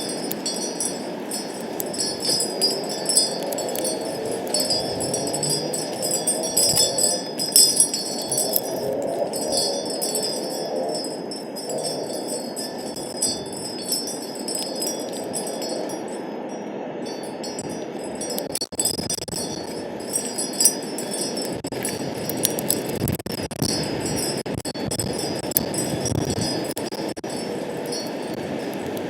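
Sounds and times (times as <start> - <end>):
wind chimes ringing: 0.0 - 29.0
wind rushing: 0.0 - 29.0.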